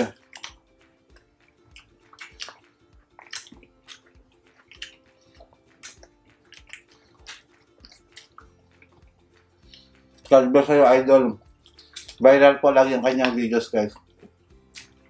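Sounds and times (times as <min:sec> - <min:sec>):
wet chewing and lip-smacking: 0:00.1 - 0:10.3, 0:11.4 - 0:12.2, 0:13.9 - 0:15.0.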